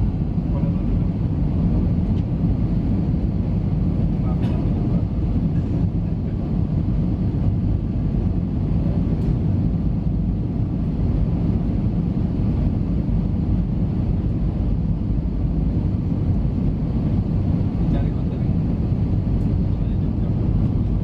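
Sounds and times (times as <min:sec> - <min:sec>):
jet engines and airflow rumble: 0:00.0 - 0:21.0.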